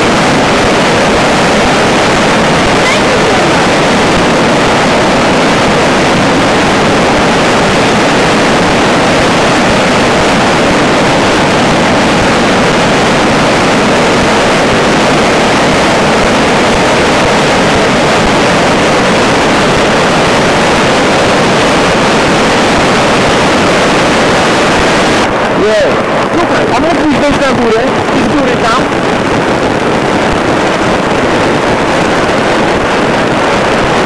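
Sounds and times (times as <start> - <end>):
river rushing in flood: 0.0 - 34.0.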